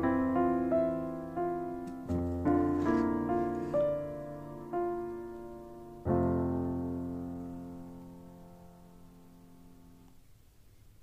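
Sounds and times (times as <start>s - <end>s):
piano notes ringing: 0.0s - 10.1s.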